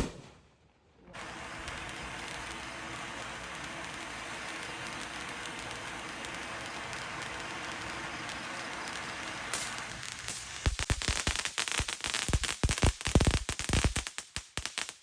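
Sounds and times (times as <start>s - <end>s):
sharp firework crack: 0.0s - 0.4s, 1.2s - 15.0s
fireworks crackling hiss: 1.2s - 15.0s.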